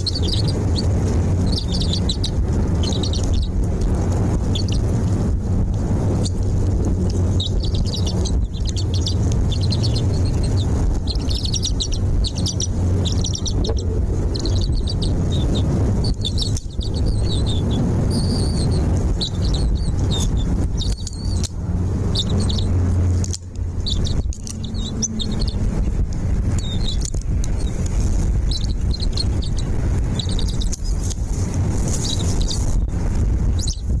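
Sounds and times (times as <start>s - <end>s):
small birds chirping: 0.0s - 34.0s
steady low rumble: 0.0s - 34.0s.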